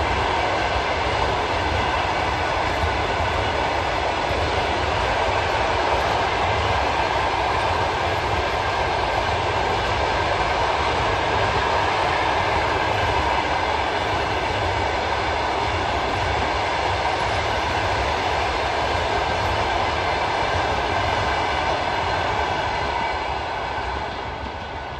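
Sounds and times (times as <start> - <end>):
train wheels rumbling on rails: 0.0 - 24.9.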